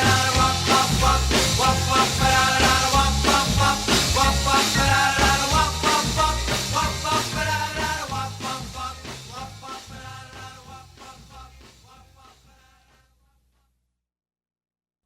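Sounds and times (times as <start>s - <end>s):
instrumental rock and roll music: 0.0s - 12.7s.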